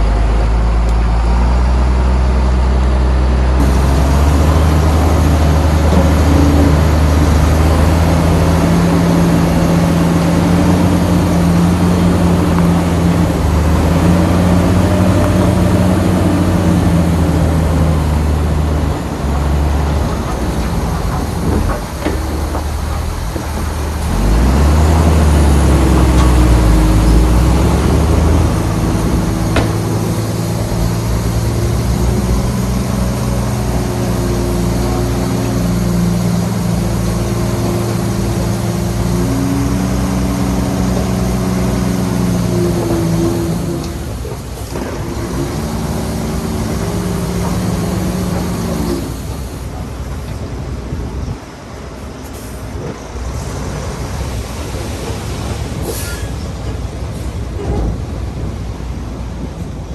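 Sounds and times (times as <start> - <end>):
bulldozer diesel engine rumbling: 0.0 - 59.9.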